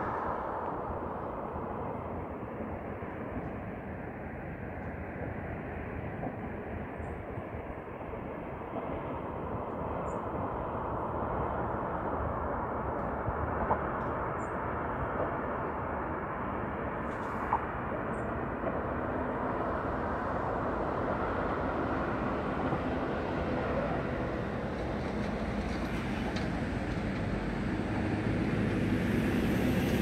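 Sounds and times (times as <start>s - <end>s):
distant city traffic: 0.0s - 30.0s.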